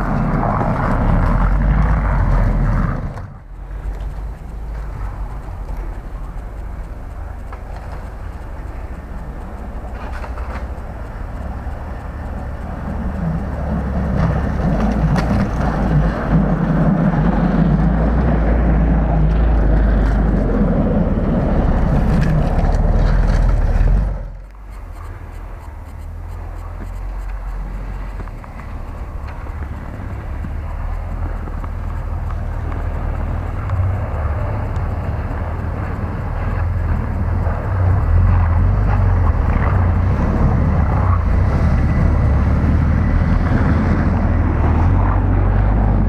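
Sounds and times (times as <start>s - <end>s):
car engine running: 0.0s - 46.0s
tyres crunching through snow: 0.0s - 46.0s.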